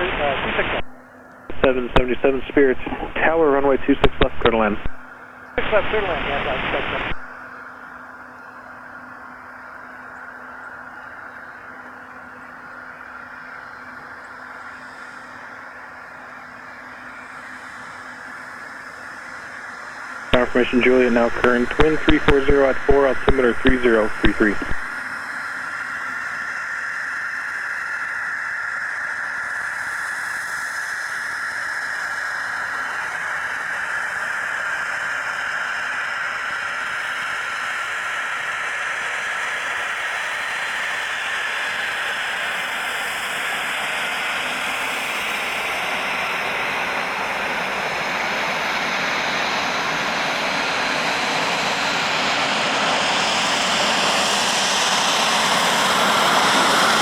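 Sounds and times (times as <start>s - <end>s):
jet engine whine and rush: 0.0s - 7.4s, 8.8s - 57.0s.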